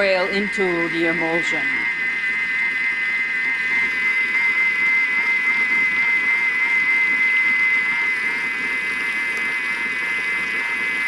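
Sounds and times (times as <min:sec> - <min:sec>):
kitchen machine motor whining: 0:00.0 - 0:11.0.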